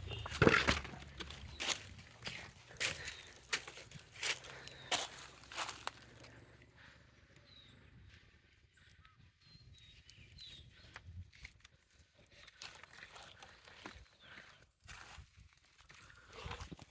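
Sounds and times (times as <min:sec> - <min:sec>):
faint forest ambience: 0:00.0 - 0:14.9
soft footsteps on forest floor: 0:00.0 - 0:16.9.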